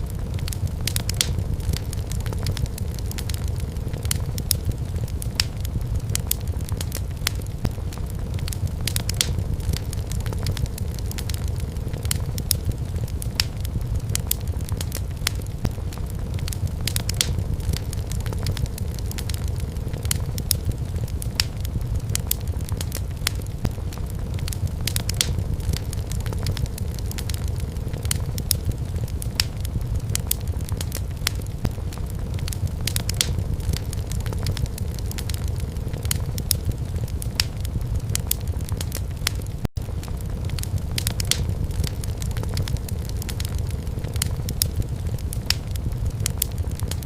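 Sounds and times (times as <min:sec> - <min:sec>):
low rumble of flames: 0:00.0 - 0:47.0
wood fire crackling and popping: 0:00.0 - 0:47.0.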